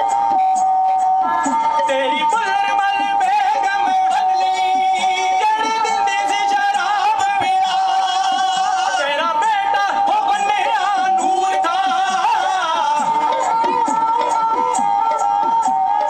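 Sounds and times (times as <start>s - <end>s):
sarangi: 0.0s - 16.0s
men singing ornamented lines: 0.9s - 16.0s.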